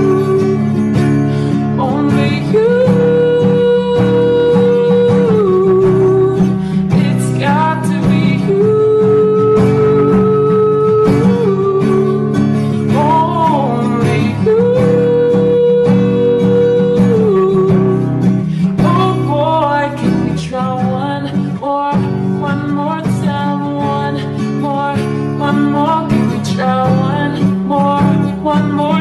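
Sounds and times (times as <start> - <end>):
acoustic guitar: 0.0 - 29.0
slow pop song: 0.0 - 29.0.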